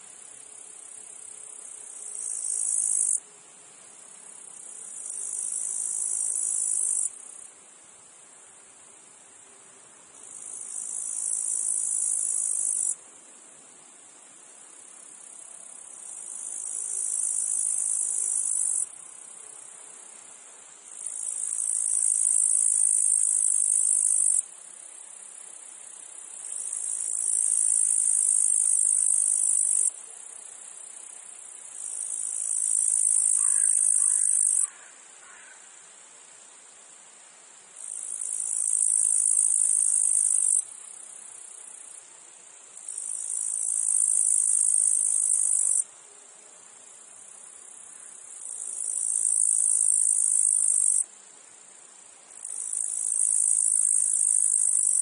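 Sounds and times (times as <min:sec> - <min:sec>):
cicadas buzzing: 0:00.0 - 0:09.2, 0:10.1 - 0:13.4, 0:14.1 - 0:37.0, 0:37.8 - 0:55.0
faint insect hum: 0:00.0 - 0:55.0.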